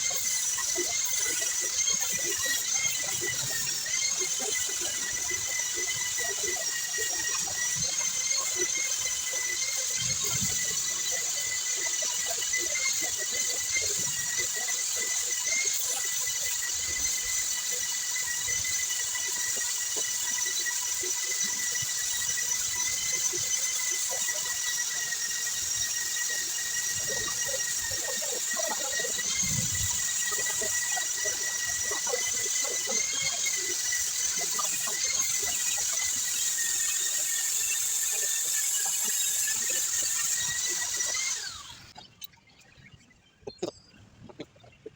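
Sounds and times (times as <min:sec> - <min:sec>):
high-pitched machine whine: 0:00.0 - 0:44.7.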